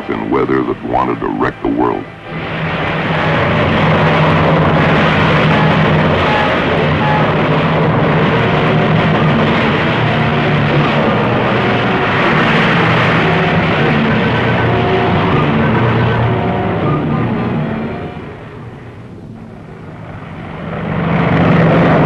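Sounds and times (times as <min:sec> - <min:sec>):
aircraft piston engines roaring: 0:00.0 - 0:22.0.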